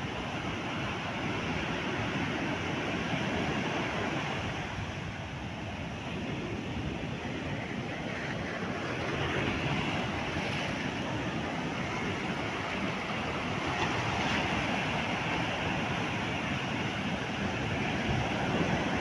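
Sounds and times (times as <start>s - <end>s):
rushing wind: 0.0s - 19.0s.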